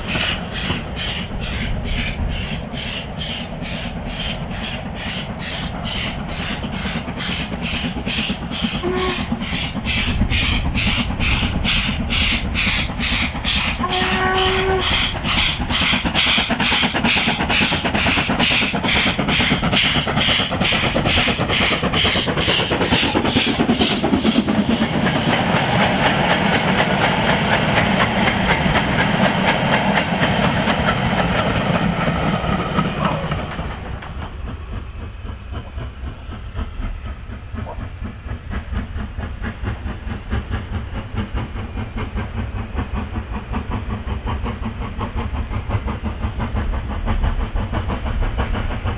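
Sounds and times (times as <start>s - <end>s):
steam locomotive exhaust beating: 0.0s - 48.9s
train wheels clattering on rails: 0.0s - 48.9s.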